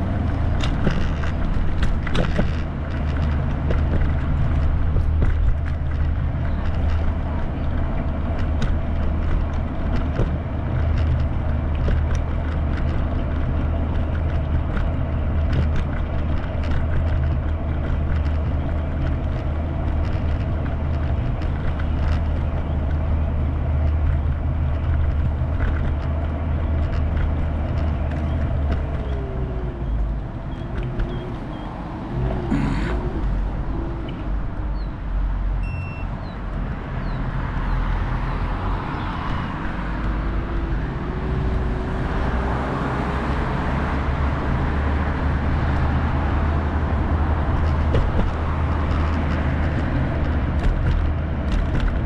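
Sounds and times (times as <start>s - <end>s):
wheels rolling on pavement: 0.0s - 52.0s
light clicks and rattles: 0.1s - 34.9s, 44.2s - 52.0s.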